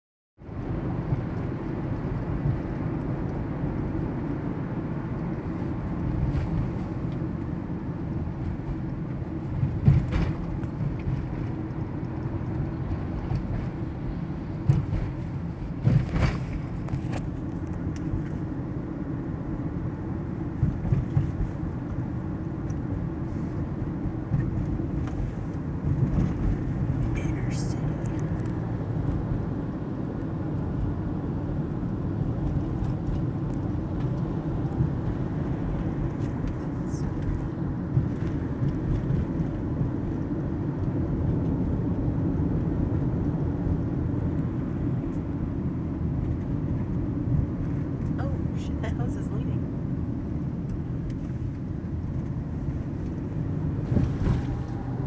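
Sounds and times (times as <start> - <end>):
car cabin road rumble: 0.4 - 55.0.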